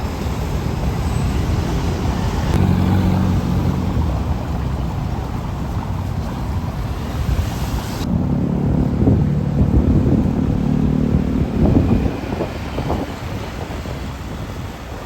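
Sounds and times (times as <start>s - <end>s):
heavy vehicle engine passing: 0.0s - 15.0s
low traffic rumble: 0.0s - 15.0s
wind buffeting microphone: 0.0s - 15.0s.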